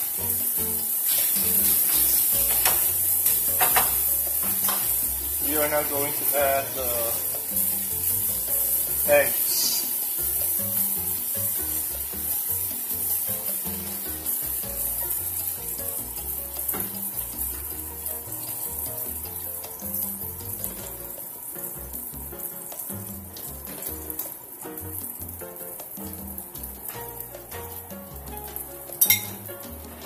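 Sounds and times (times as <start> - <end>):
background music: 0.0 - 30.0
food sizzling in a pan: 0.0 - 30.0.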